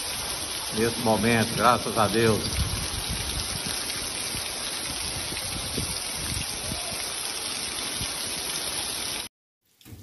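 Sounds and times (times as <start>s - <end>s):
heavy rain on pavement: 0.0s - 9.3s
runoff water splashing: 0.0s - 9.3s.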